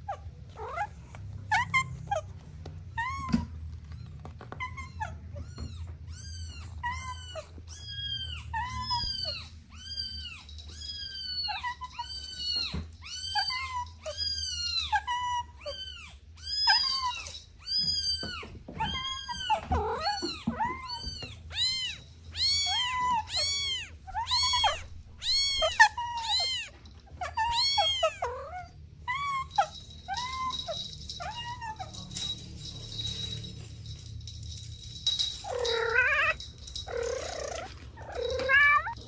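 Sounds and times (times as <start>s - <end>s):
kittens meowing: 0.0s - 32.4s, 35.1s - 39.0s.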